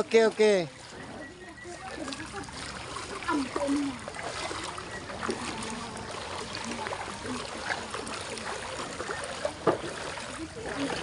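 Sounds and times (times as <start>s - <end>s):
footsteps wading through water: 0.0s - 11.0s.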